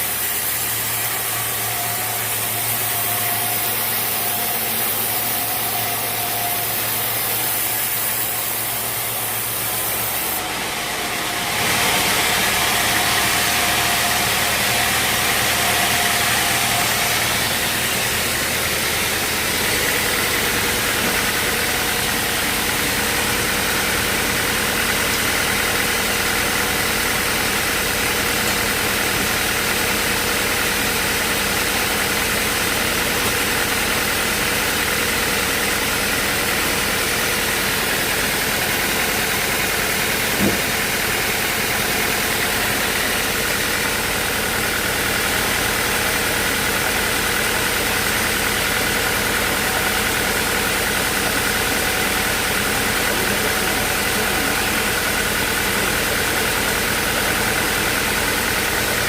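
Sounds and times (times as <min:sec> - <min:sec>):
band sawmill running: 0:00.0 - 0:59.0.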